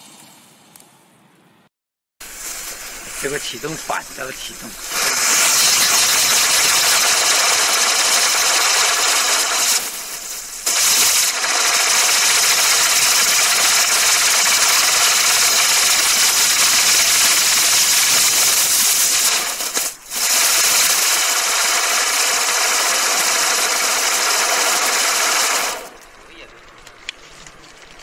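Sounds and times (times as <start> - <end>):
firework wheels hissing buzz: 2.2 - 26.8.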